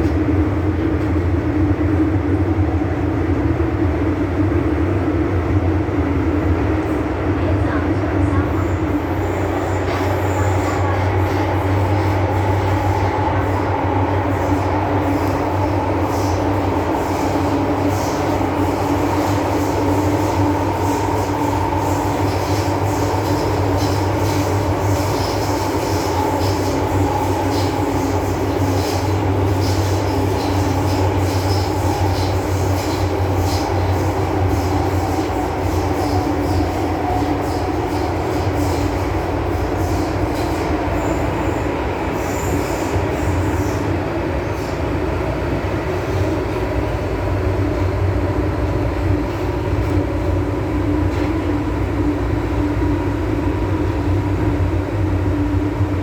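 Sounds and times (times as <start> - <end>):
continuous train hum: 0.0 - 56.0
train wheels rumbling on rail: 0.0 - 56.0.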